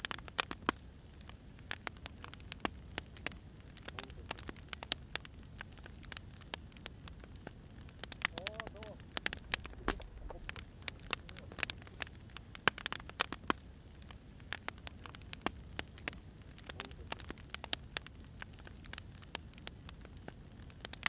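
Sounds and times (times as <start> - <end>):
firewood crackling and popping: 0.0 - 21.0
low steady rumble: 1.6 - 19.1.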